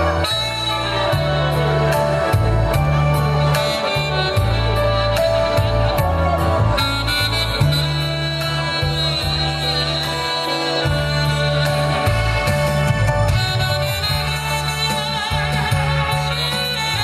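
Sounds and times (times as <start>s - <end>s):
backing track bass and drums: 0.0s - 17.0s
saxophone melody: 0.0s - 17.0s.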